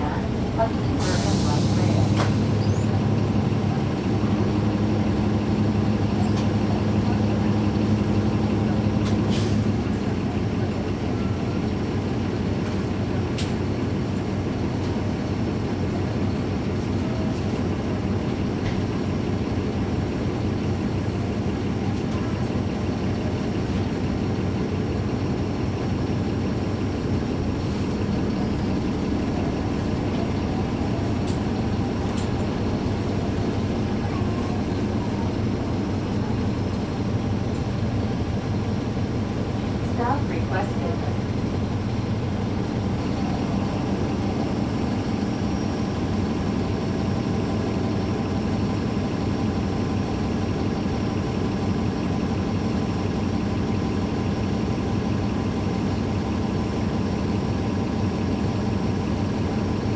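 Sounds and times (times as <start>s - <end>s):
bus diesel engine humming: 0.0s - 59.9s
road and cabin noise: 0.0s - 59.9s.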